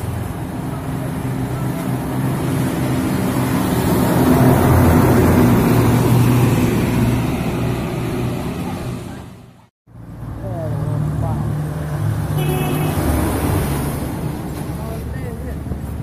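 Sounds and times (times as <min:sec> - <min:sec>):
truck passing by: 0:00.0 - 0:16.0.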